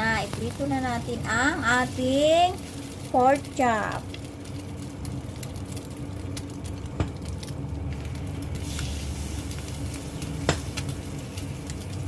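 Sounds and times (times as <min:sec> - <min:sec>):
meat sizzling in hot oil: 0:00.0 - 0:12.0
steady low hum: 0:00.0 - 0:12.0.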